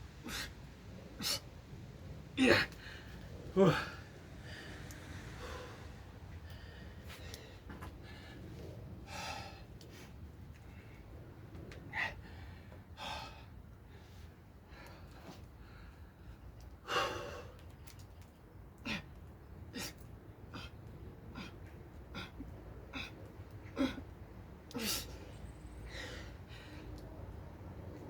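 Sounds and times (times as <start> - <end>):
man breathing hard: 2.4 - 11.0, 11.9 - 17.6, 18.8 - 27.4.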